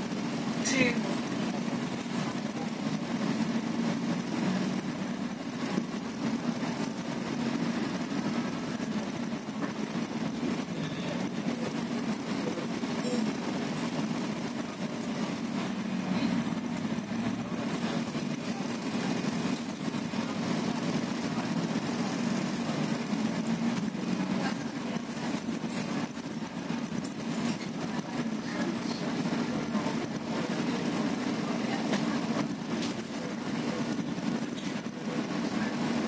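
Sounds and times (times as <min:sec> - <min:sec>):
bus engine hum: 0:00.0 - 0:36.0
road and body noise: 0:00.0 - 0:36.0.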